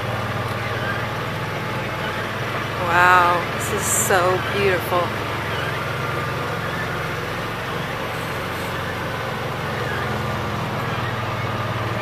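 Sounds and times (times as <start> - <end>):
road and movement noise: 0.0 - 12.0
vehicle engine hum: 0.0 - 12.0.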